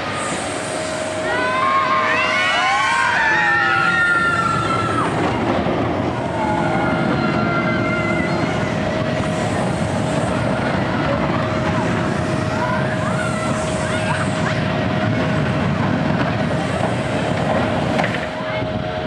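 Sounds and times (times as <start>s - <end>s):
roller coaster wheels rumbling: 0.0s - 19.0s.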